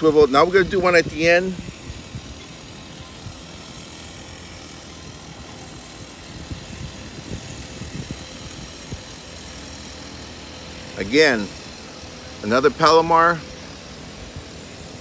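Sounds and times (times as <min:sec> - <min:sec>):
distant engine hum: 0:00.0 - 0:15.0.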